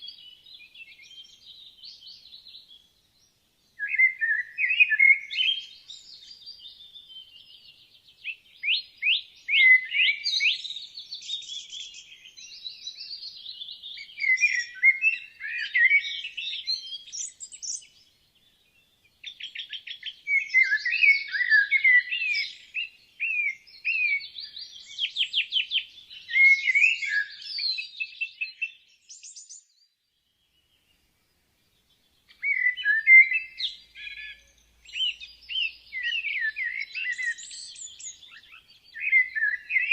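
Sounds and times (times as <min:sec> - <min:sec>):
woodland birdsong: 0:00.0 - 0:39.9.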